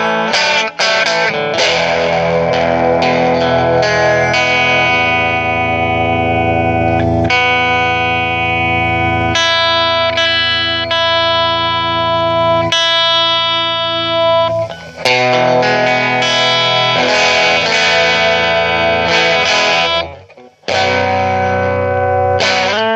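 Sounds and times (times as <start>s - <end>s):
electric guitar chords ringing: 0.0s - 22.9s.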